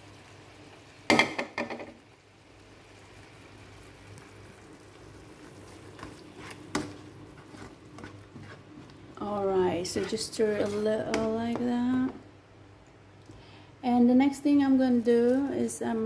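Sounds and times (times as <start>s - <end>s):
sauce cooking in a pan: 0.0s - 16.0s.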